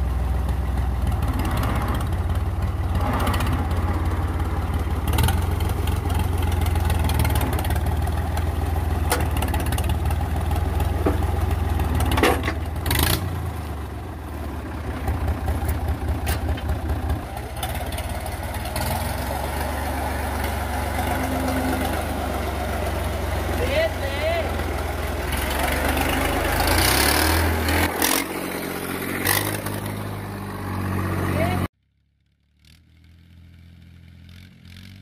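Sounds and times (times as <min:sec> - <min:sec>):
diesel tractor engine chugging: 0:00.0 - 0:31.7.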